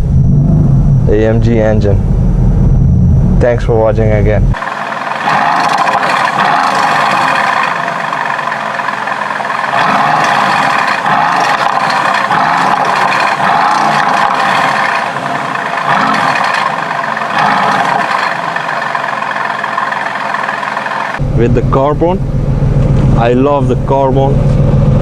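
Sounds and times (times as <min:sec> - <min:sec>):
car engine revving: 0:00.0 - 0:23.7.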